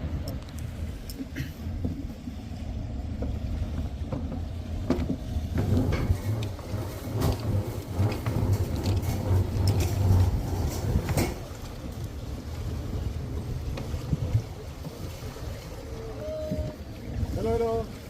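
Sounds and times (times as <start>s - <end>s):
knocks and clicks from boat: 0.0s - 18.0s
low rumble aboard yacht: 0.0s - 18.0s.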